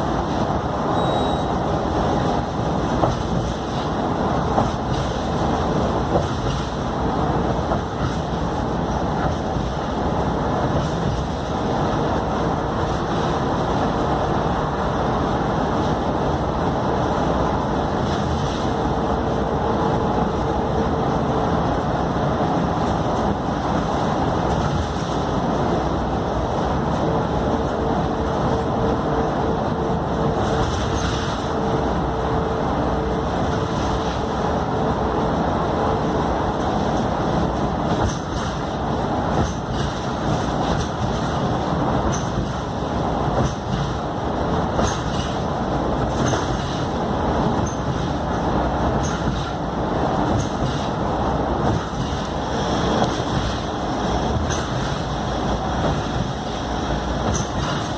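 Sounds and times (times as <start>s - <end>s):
bus engine and road noise: 0.0s - 57.9s.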